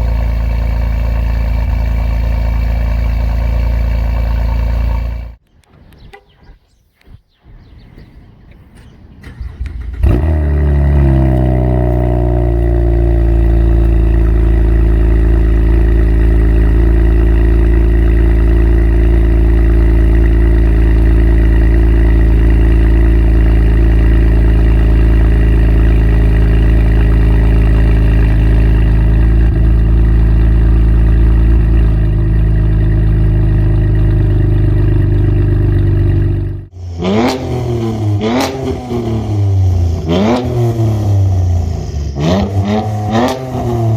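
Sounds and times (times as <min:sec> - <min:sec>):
car engine exhaust running: 0:00.0 - 0:05.4, 0:09.2 - 0:43.9
car engine revving: 0:00.0 - 0:05.4, 0:09.2 - 0:43.9.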